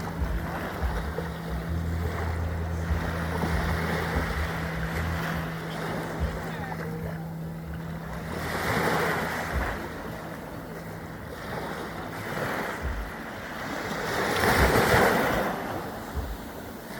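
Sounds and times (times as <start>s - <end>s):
low steady hum: 0.0s - 16.9s
waves breaking on beach: 0.0s - 16.9s.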